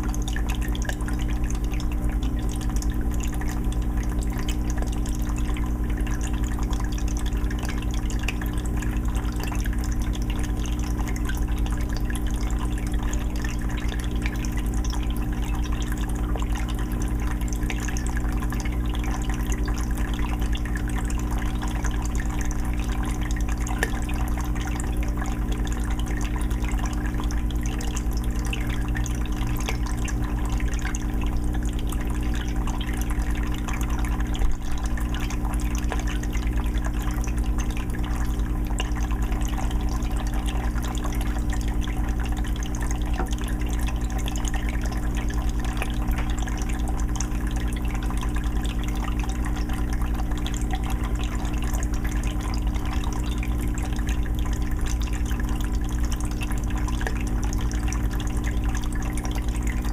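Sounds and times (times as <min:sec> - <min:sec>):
filter humming: 0:00.0 - 0:59.9
water trickling and splashing: 0:00.0 - 0:59.9.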